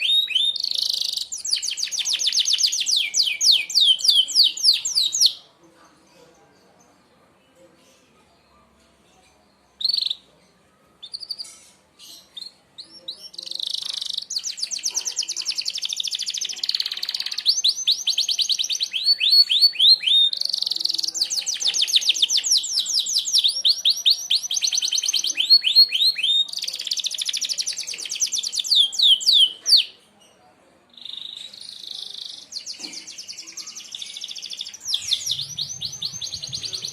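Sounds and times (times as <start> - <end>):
canary singing trills: 0.0 - 5.5, 9.5 - 36.9.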